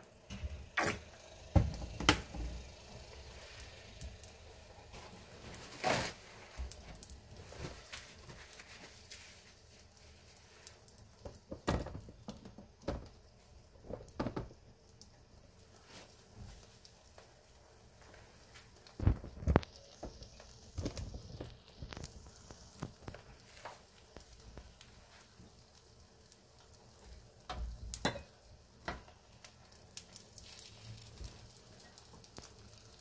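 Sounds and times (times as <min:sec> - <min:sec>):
pancakes sizzling in oil: 0:00.0 - 0:33.0.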